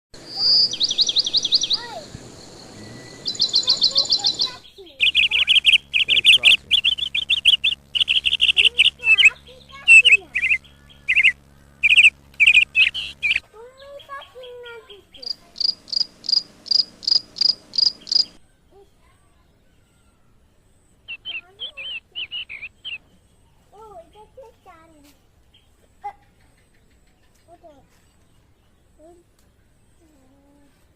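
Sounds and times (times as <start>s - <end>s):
small birds chirping: 0.2s - 30.9s.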